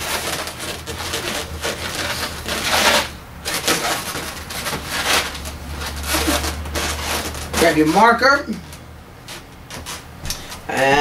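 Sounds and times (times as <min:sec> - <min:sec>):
balloons rustling and scraping: 0:00.0 - 0:11.0.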